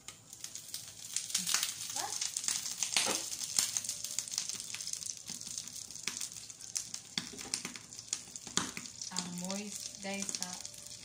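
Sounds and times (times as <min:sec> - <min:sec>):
omelet sizzling in frying pan: 0:00.0 - 0:11.0.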